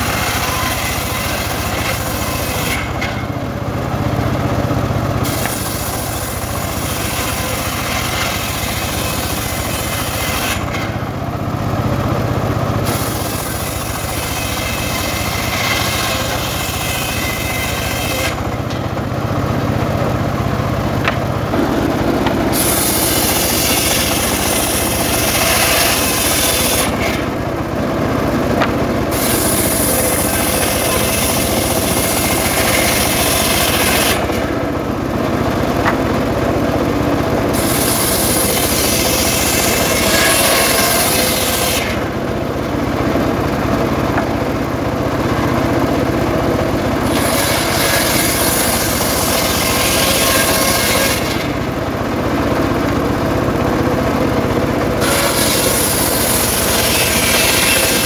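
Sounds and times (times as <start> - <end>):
circular saw cutting boards: 0.0 - 11.2, 12.8 - 51.9, 53.6 - 58.0
saw motor humming: 0.0 - 58.0.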